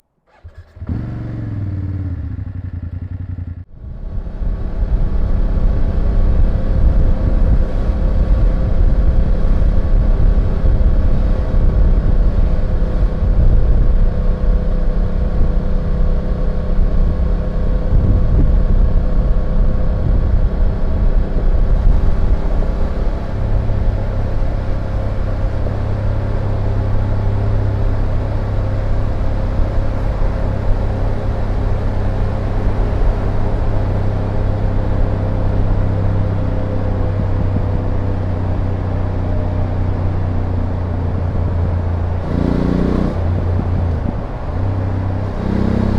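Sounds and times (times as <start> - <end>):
motorcycle engine running: 0.3 - 45.9.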